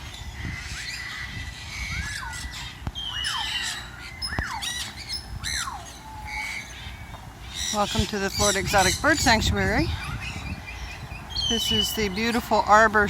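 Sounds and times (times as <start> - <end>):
parrots squawking: 0.0 - 12.9.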